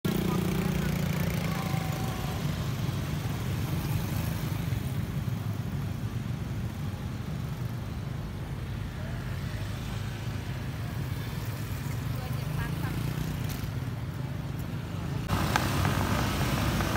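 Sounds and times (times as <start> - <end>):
motorcycle engines passing: 0.1 - 16.9.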